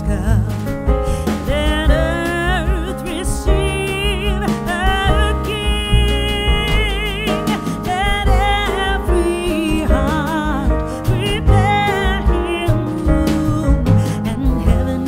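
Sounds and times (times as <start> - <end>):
song with vocals and bass: 0.0 - 15.0.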